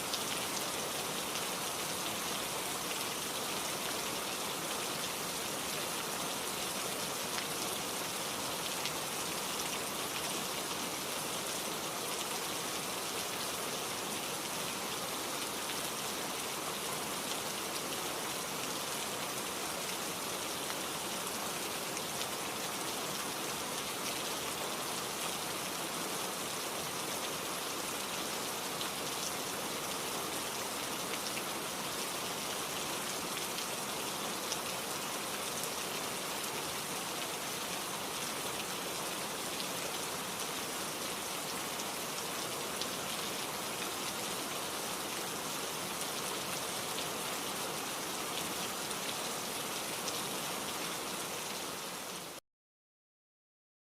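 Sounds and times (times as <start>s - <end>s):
steady rain falling: 0.0s - 52.4s.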